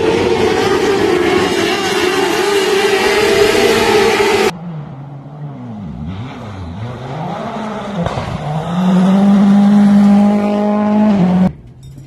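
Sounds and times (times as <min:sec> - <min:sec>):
race car engine revving: 0:00.0 - 0:11.5.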